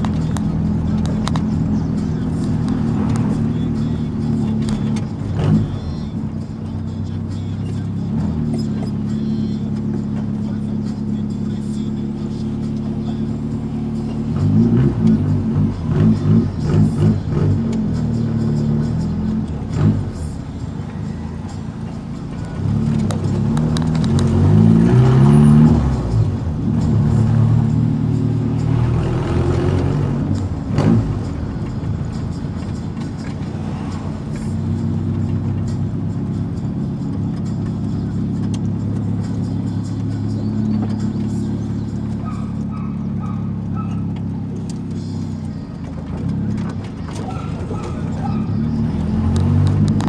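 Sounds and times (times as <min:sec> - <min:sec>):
car engine and exhaust accelerating: 0:00.0 - 0:50.0.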